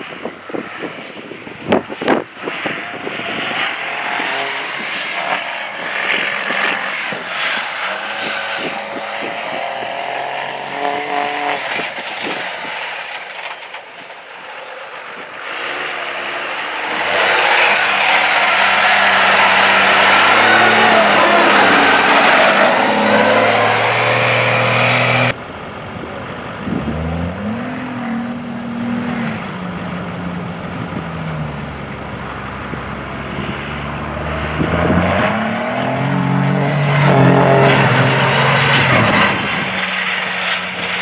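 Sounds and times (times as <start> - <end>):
truck engine revving: 1.6 - 41.0.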